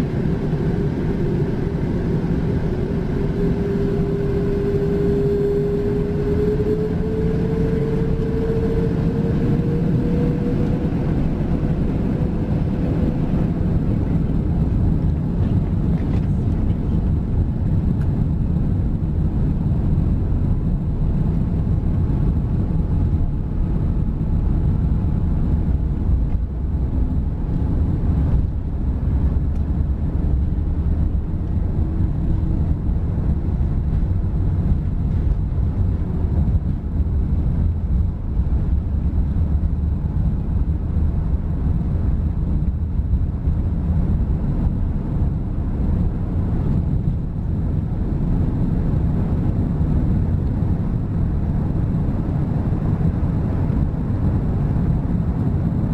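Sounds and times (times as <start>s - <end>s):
jet engines roaring at takeoff: 0.0s - 55.9s
wheels rumbling on runway: 0.0s - 55.9s.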